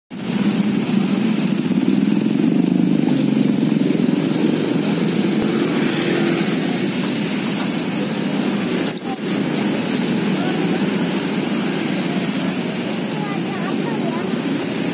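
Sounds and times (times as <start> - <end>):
small motorbikes passing: 0.2 - 14.9.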